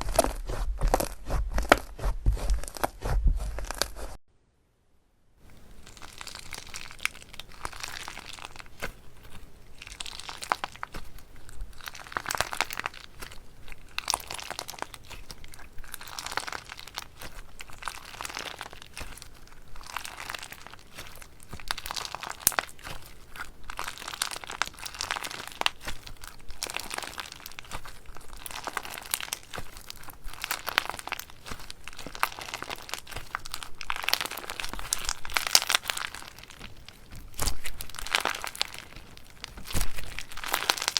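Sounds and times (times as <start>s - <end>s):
slime crackling when squeezed: 5.6s - 40.9s.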